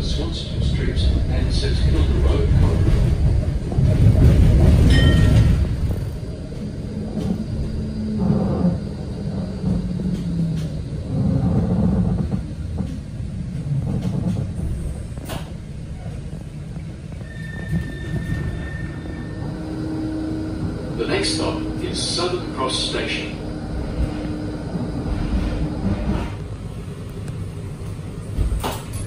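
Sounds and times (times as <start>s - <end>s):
tram wheels and motors rumbling: 0.0s - 29.0s.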